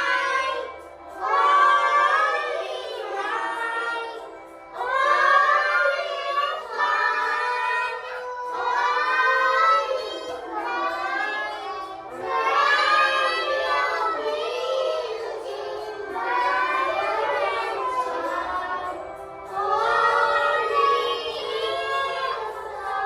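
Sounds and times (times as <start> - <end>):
young children singing: 0.0 - 23.0.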